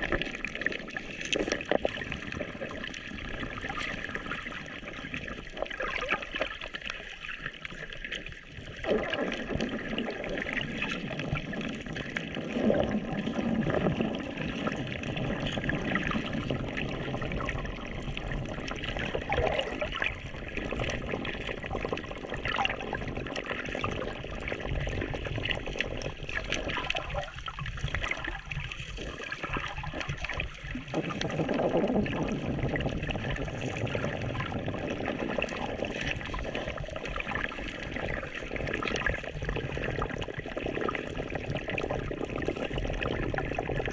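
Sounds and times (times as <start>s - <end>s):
water sloshing and gurgling: 0.0s - 43.9s.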